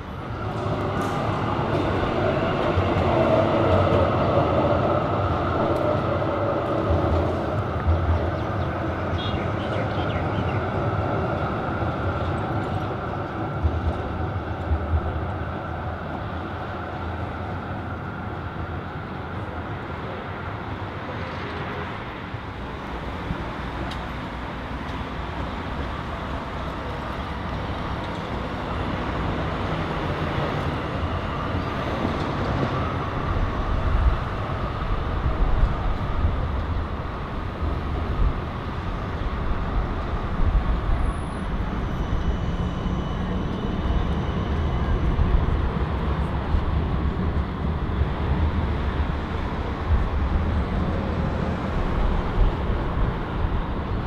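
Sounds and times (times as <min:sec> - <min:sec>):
city street traffic: 0:00.0 - 0:54.0
trams passing: 0:00.0 - 0:54.0.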